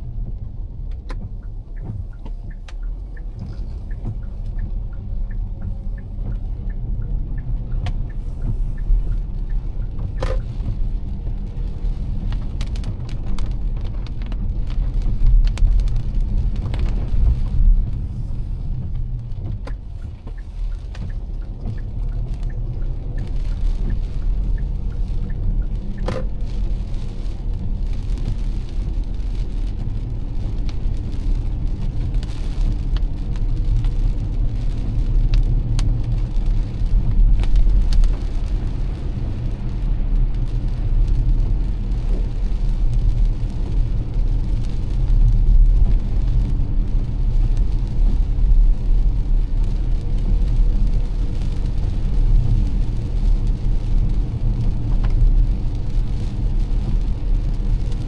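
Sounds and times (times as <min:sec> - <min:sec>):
engine and tyres rumbling: 0:00.0 - 0:58.0
raindrops ticking: 0:00.0 - 0:58.0.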